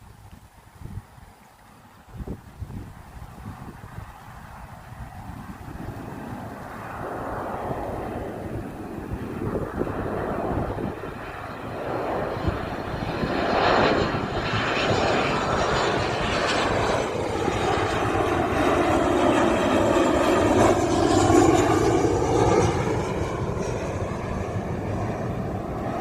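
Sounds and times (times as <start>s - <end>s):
low rumble of wind: 0.0s - 26.0s
jet engines roaring: 1.2s - 26.0s.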